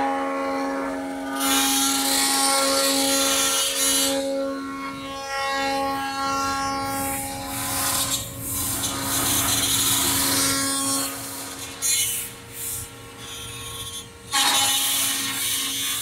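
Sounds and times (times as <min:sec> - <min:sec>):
router spindle whine: 0:00.0 - 0:16.0.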